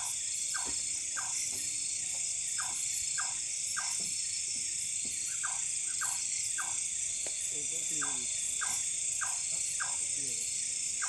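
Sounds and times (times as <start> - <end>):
frogs calling: 0.0 - 11.0
insects droning: 0.0 - 11.0.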